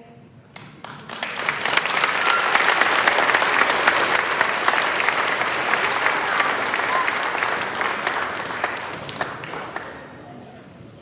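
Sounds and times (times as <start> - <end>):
audience applause: 0.6 - 10.4.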